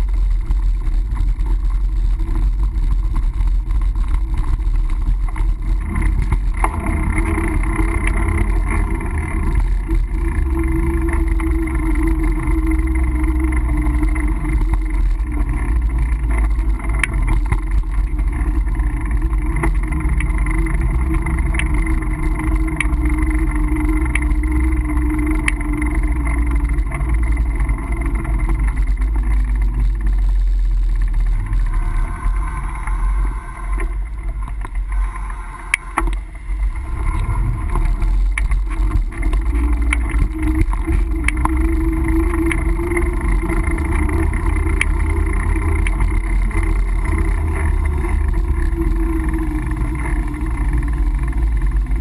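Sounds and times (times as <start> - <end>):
bike rolling noise: 0.0 - 52.0
wind rumble: 0.0 - 52.0.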